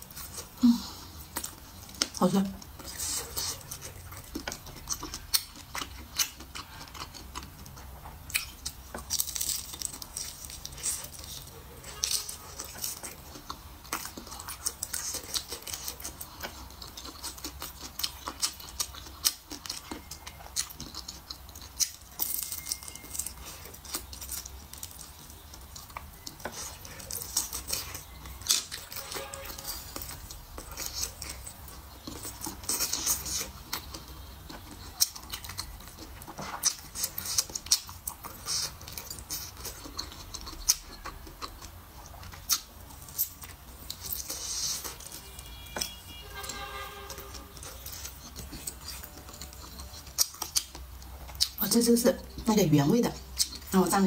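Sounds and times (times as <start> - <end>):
wet chewing mouth sounds: 0.0 - 52.4, 53.0 - 54.0.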